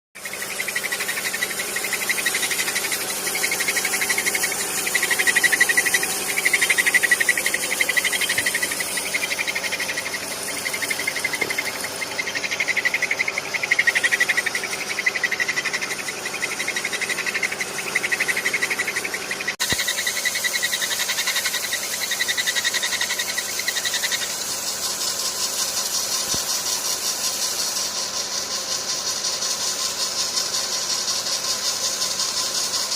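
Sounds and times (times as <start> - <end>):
engine belt squealing: 0.2 - 32.9.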